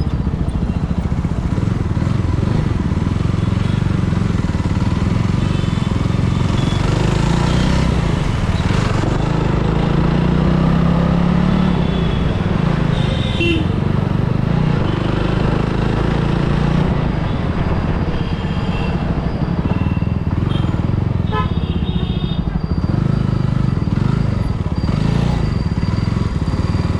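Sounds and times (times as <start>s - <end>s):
motorcycle engine running: 0.0s - 26.9s
street traffic: 0.0s - 26.9s.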